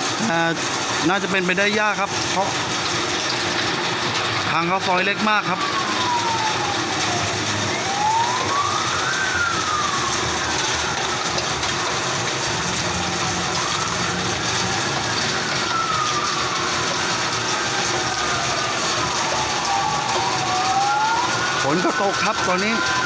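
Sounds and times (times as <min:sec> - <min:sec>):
fire engine sirens wailing: 0:00.0 - 0:23.0.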